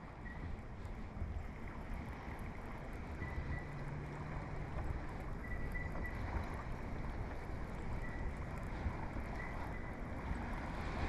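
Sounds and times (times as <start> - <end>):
water lapping against boat hull: 0.0 - 11.0
wind blowing across microphone: 0.0 - 11.0.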